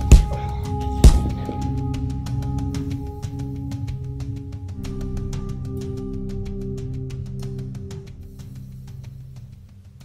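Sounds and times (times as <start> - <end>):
background music with ticking beat: 0.0 - 10.0.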